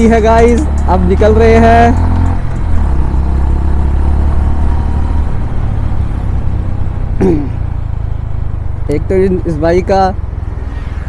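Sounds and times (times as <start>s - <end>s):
motorcycle engine running: 0.0s - 10.4s
road and wind noise: 0.0s - 11.0s.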